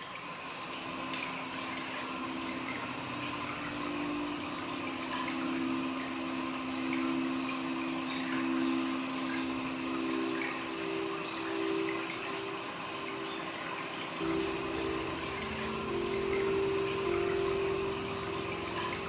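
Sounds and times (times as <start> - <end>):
water running: 0.0 - 19.0.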